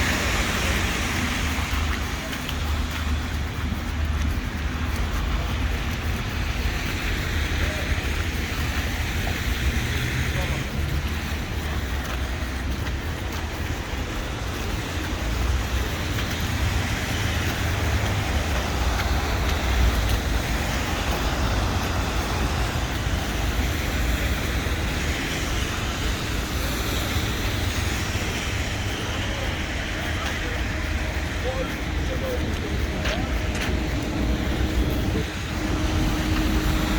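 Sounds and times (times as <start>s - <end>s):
road vehicles passing: 0.0s - 36.9s.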